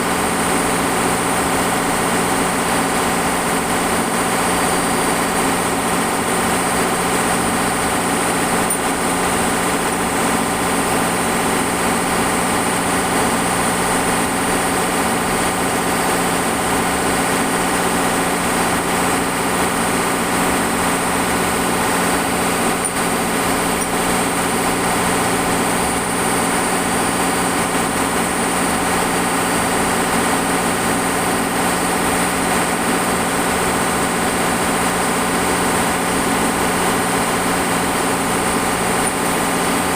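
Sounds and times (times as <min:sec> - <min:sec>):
high steady whine: 0:00.0 - 0:39.9.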